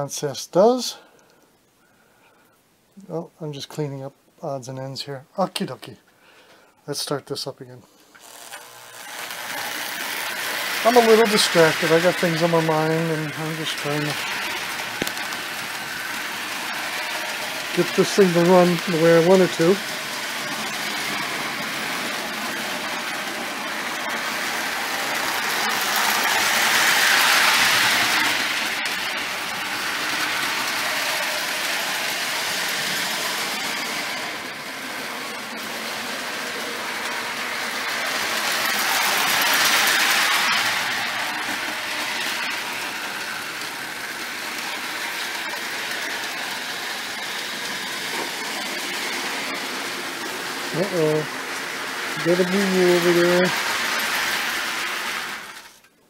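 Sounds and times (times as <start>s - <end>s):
toy train whirring on metal rails: 8.0s - 56.0s.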